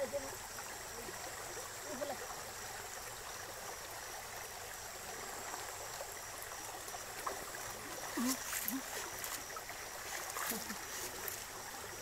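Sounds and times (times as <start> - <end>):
water rushing through channel: 0.0 - 12.0.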